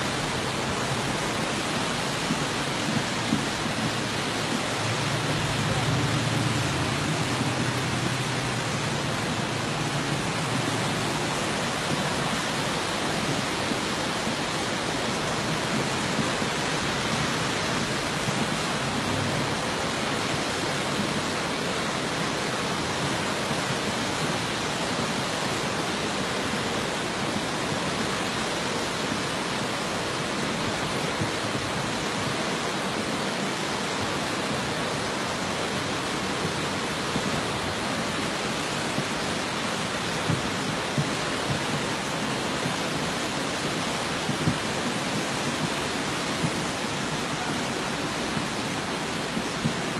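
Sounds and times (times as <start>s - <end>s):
rushing floodwater: 0.0s - 49.9s.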